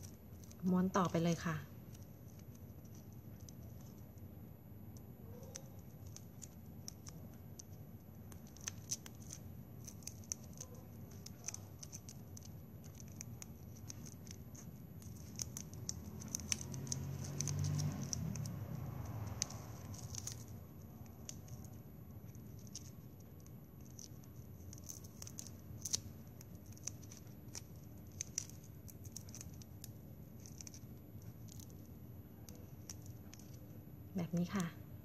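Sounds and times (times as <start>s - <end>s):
plastic straws clicking and scratching: 0.0s - 4.2s, 5.0s - 33.8s.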